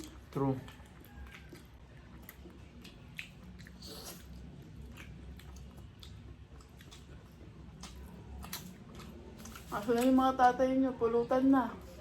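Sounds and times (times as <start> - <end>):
chewing and biting food: 0.0 - 10.1.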